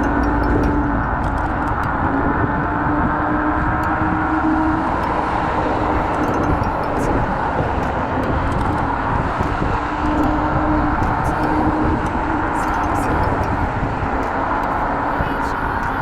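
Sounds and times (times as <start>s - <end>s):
steady hum: 0.0s - 16.0s
wind on microphone: 0.0s - 16.0s.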